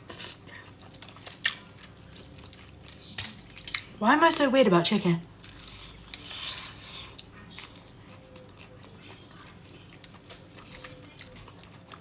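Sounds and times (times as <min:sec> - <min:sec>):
soft chewing with small clicks: 0:00.0 - 0:04.0, 0:05.2 - 0:12.0.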